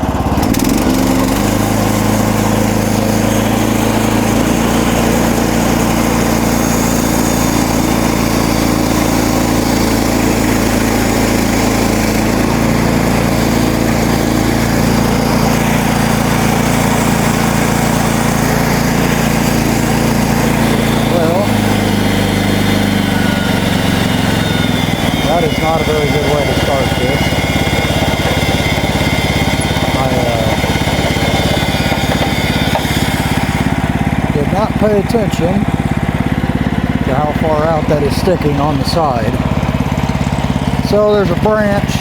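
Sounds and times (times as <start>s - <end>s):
sawmill gasoline engine running: 0.0s - 42.0s.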